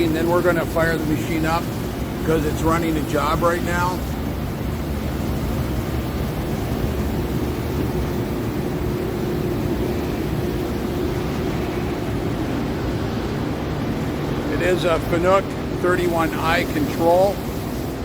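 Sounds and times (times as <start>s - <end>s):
lathe machine noise: 0.0s - 18.0s.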